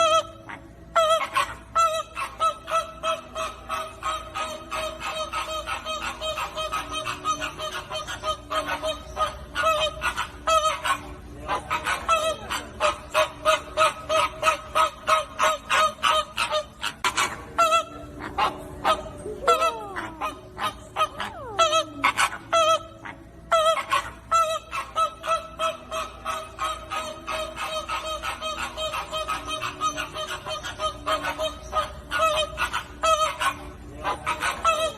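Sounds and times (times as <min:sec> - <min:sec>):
flamingos honking: 0:00.0 - 0:34.9.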